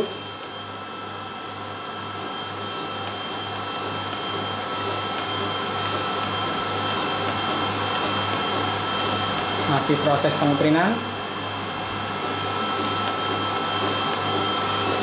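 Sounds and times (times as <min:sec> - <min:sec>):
high steady whines: 0:00.0 - 0:15.0
printer motors and fans whirring: 0:00.0 - 0:15.0.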